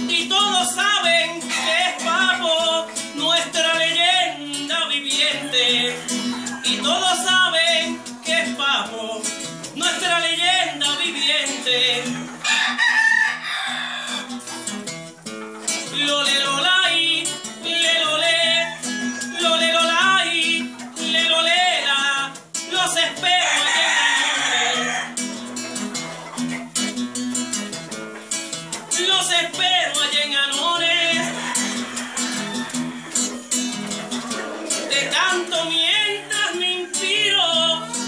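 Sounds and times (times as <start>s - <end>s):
man singing: 0.0s - 13.3s, 15.6s - 25.1s, 28.7s - 32.7s, 34.2s - 38.0s
roosters crowing: 0.0s - 38.0s
strummed acoustic guitar: 0.0s - 38.0s.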